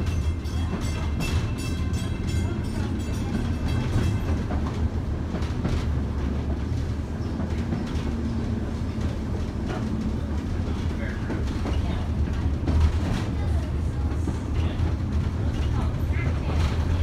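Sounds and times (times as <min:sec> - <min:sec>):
streetcar wheels rumbling on rail: 0:00.0 - 0:17.0.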